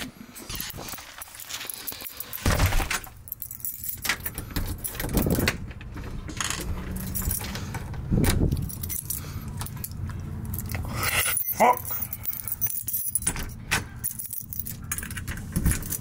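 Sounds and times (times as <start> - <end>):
keys jangling: 0.5 - 5.5, 6.7 - 16.0.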